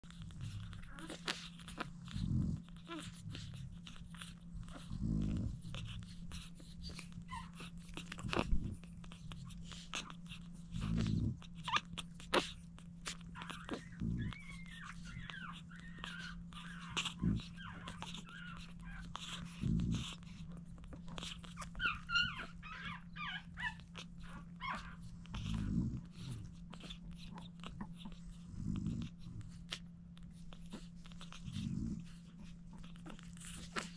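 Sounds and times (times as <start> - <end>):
puppies squeaking and whimpering: 0.0 - 33.9
puppies suckling clicks and smacks: 0.0 - 33.9
steady low hum: 0.0 - 33.9.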